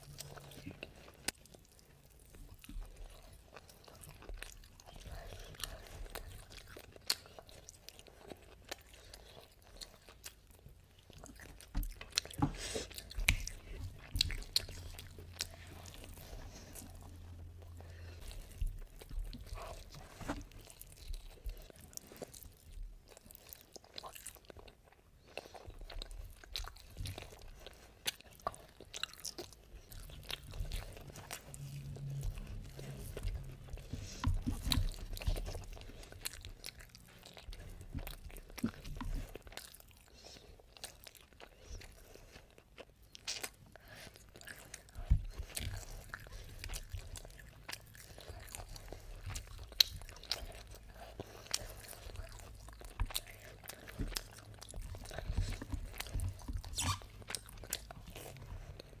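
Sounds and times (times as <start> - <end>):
close-miked chewing: 0.0 - 59.0.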